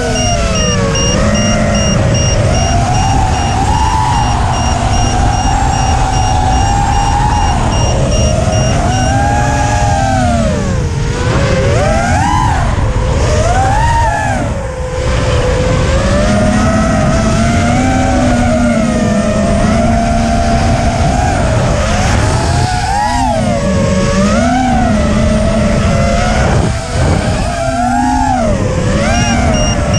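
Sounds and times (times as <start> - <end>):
low wind rumble: 0.0 - 29.9
quadcopter motors whining: 0.0 - 29.9.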